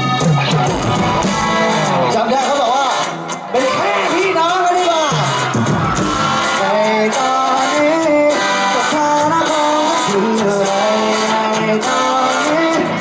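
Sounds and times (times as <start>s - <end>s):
electric guitar: 0.0s - 13.0s
live pop-rock band: 0.0s - 13.0s
man singing: 1.2s - 5.6s, 6.2s - 13.0s.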